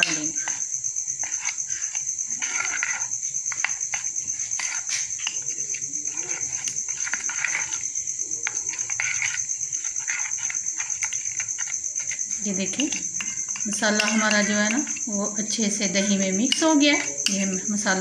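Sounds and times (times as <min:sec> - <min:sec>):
high insect trill: 0:00.0 - 0:18.0
spoon stirring in a bowl: 0:00.0 - 0:18.0.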